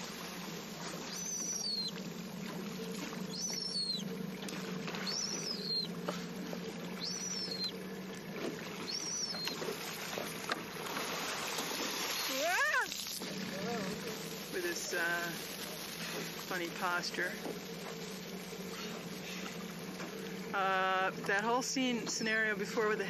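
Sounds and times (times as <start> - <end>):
steady low hum: 0.0 - 12.4, 13.1 - 23.0
water lapping around boat: 0.0 - 23.0.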